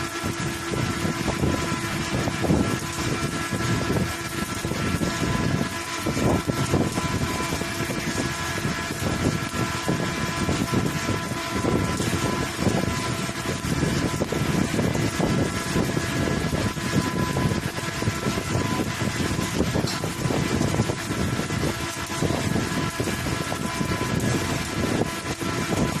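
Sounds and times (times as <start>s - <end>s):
steady machine hum: 0.0s - 26.0s
welding arc crackling: 0.0s - 26.0s.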